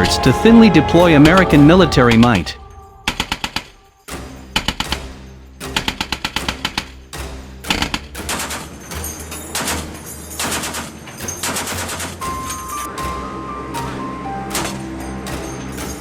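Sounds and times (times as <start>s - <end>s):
background music with low drone: 0.0s - 16.0s.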